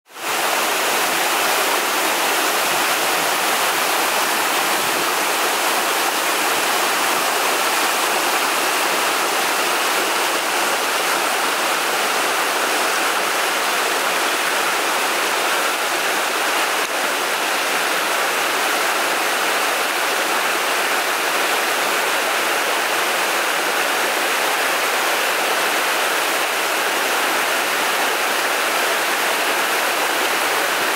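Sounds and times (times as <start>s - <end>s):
waterfall rushing over rock: 0.1s - 30.9s.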